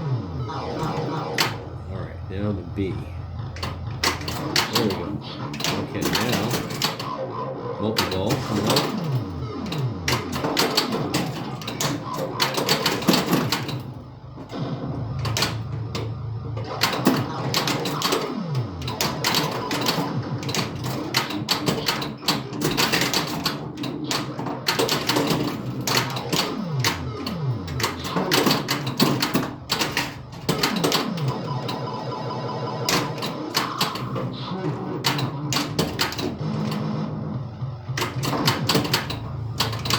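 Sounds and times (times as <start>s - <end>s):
electronic game sound effects: 0.0s - 23.4s, 24.2s - 39.9s
pinball solenoids clacking: 0.4s - 39.9s.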